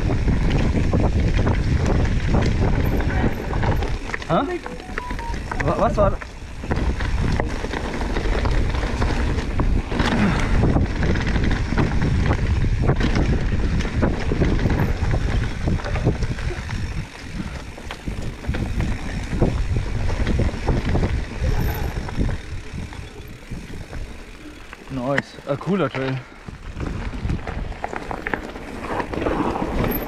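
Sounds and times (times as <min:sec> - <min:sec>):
bike frame and chain rattling: 0:00.0 - 0:04.6, 0:05.6 - 0:30.0
wind buffeting microphone: 0:00.0 - 0:04.6, 0:05.6 - 0:24.9, 0:26.4 - 0:30.0
bike tyres rolling on dirt: 0:00.0 - 0:04.7, 0:05.4 - 0:30.0.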